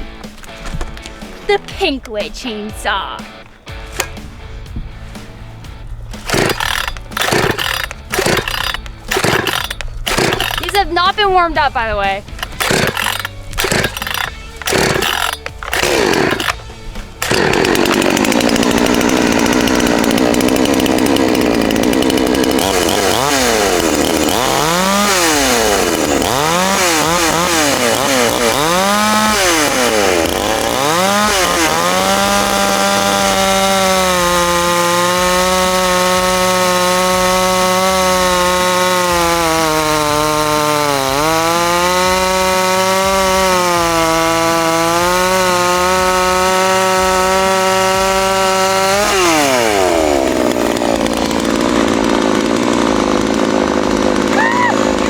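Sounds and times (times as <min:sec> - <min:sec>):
chainsaw engine revving: 0:03.2 - 0:55.0.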